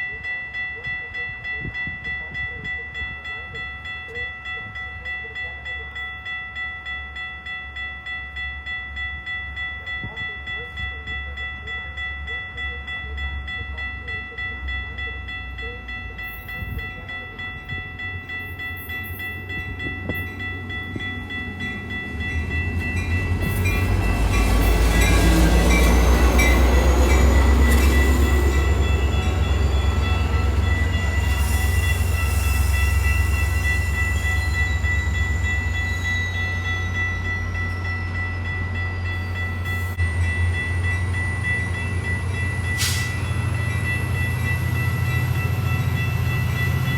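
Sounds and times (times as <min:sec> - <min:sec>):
train passing on tracks: 0:00.0 - 0:46.9.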